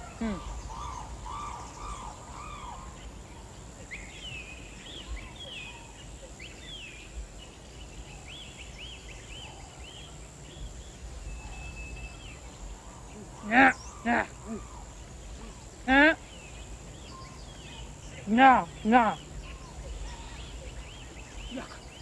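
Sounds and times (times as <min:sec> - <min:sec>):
birds chirping: 0:00.0 - 0:22.0
faint outdoor background: 0:00.0 - 0:22.0.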